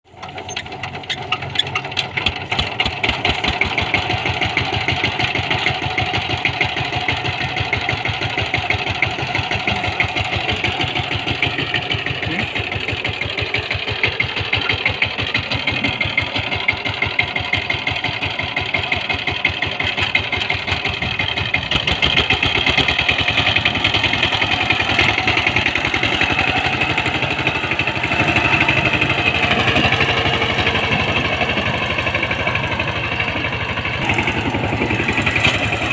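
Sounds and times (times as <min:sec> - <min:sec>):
tiller engine puttering: 0:00.1 - 0:35.9.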